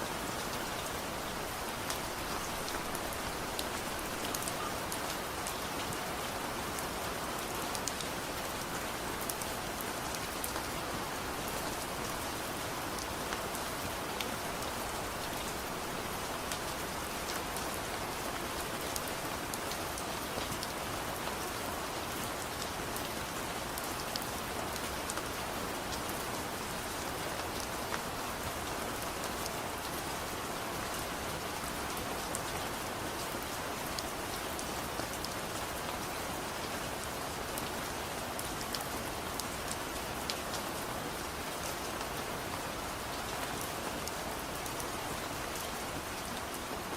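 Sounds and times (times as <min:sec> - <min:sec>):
soft rain falling: 0:00.0 - 0:46.9.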